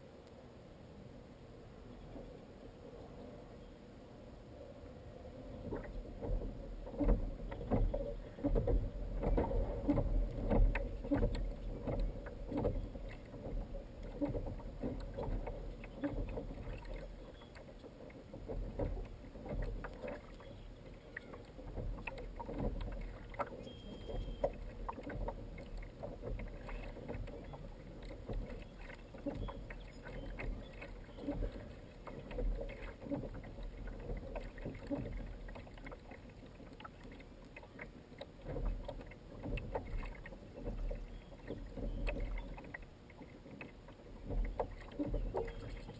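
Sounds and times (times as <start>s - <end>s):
water lapping against kayak hull: 1.2s - 45.9s.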